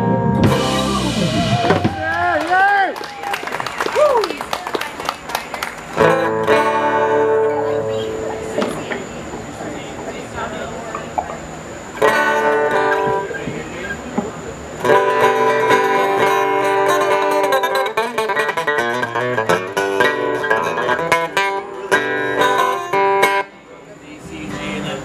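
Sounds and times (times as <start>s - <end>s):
acoustic guitar music: 0.0s - 2.4s, 5.4s - 25.0s.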